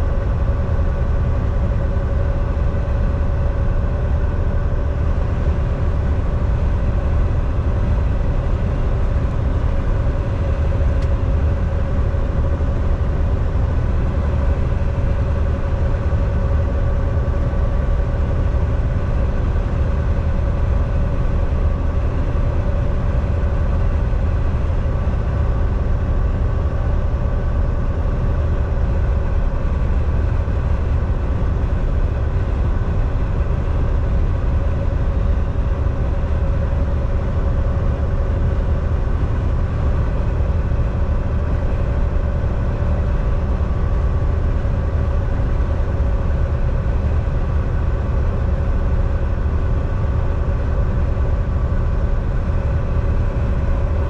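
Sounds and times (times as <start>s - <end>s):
mid-pitched hum: 0.0s - 54.0s
truck diesel engine and road rumble: 0.0s - 54.0s.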